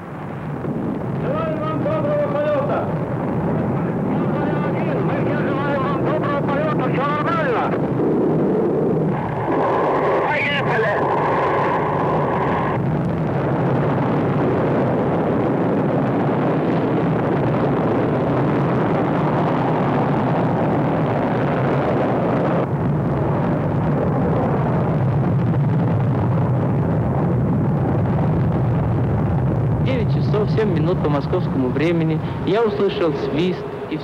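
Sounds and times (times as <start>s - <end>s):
rocket engines roaring: 0.0s - 34.0s.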